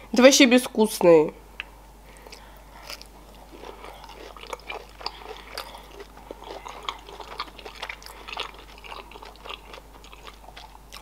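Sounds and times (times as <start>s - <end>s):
person chewing with mouth clicks: 1.6s - 11.0s.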